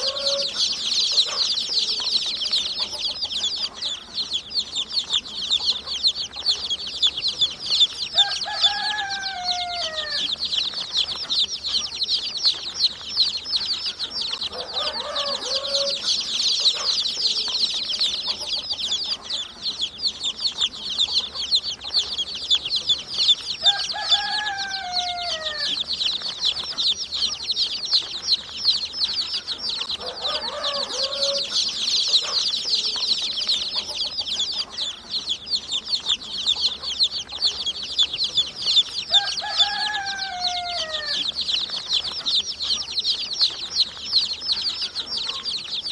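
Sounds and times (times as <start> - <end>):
baby chicks peeping: 0.0 - 45.9.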